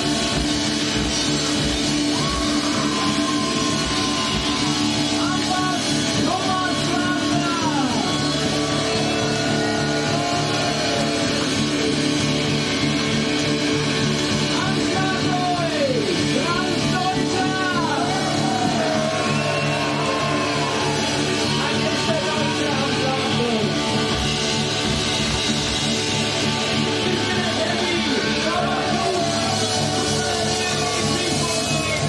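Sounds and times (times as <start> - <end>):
loud live rock band: 0.0 - 32.0.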